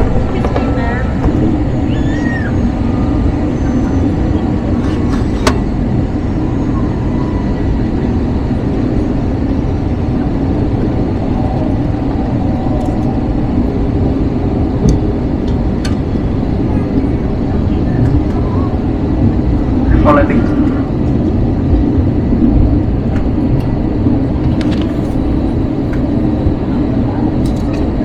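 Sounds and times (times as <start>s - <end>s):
airplane cabin rumble: 0.0s - 28.0s.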